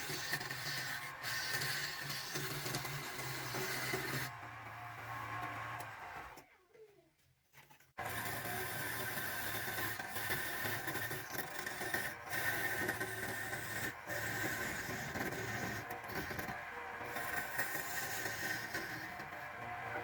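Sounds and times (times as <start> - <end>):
power tool rasping wood: 0.0 - 6.4, 8.0 - 20.0.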